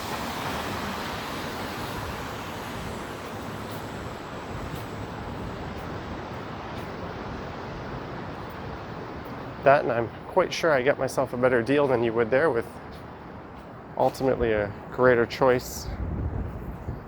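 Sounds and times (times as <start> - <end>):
traffic on a wet road: 0.0 - 15.8.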